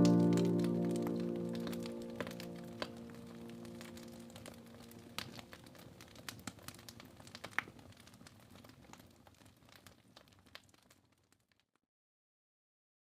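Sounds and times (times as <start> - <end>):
wood fire crackling: 0.0 - 11.6.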